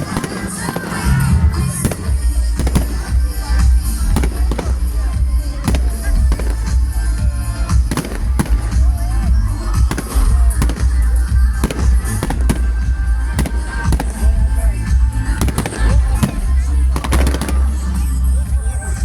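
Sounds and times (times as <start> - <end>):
fireworks bangs and crackles: 0.0 - 19.0
music: 0.0 - 19.0.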